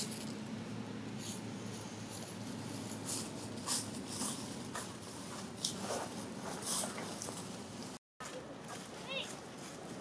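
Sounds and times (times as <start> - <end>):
rustling dry leaves: 0.0 - 10.0.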